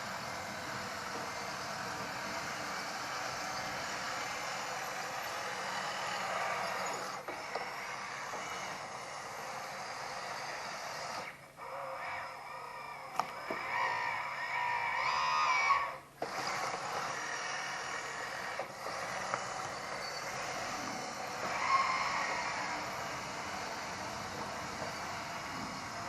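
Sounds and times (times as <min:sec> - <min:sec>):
hydraulic pump and motors whining: 0:00.0 - 0:26.0.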